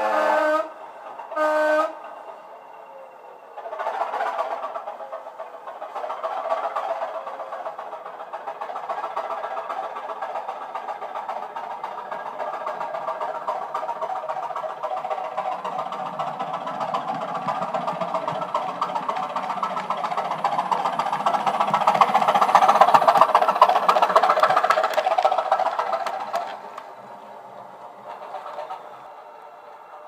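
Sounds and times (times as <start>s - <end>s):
model train wheels rattling: 3.6s - 29.3s.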